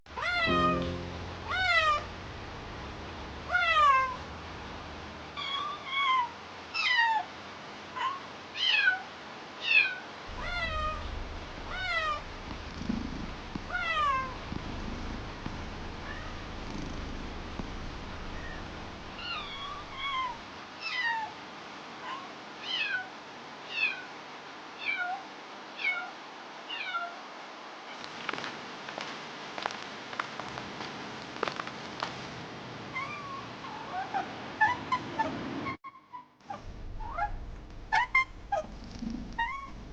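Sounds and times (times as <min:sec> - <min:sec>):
steady background hiss: 0:00.5 - 0:33.6, 0:36.5 - 0:39.9.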